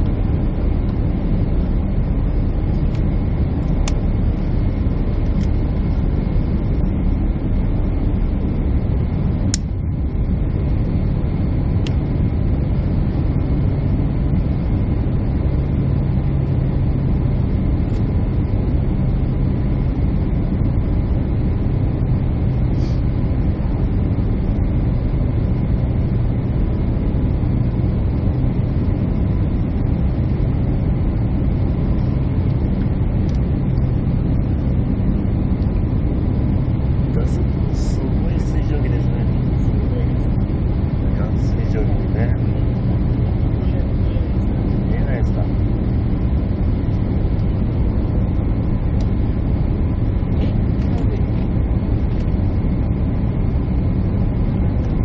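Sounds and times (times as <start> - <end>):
airliner engine drone in cabin: 0.0 - 55.0
faint steady hum: 0.0 - 55.0.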